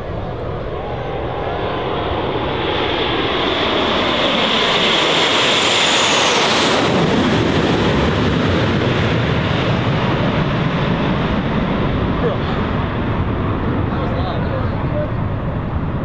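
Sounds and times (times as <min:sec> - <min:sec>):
high jet whine falling in pitch: 0:00.0 - 0:16.0
jet roar overhead: 0:00.0 - 0:16.0.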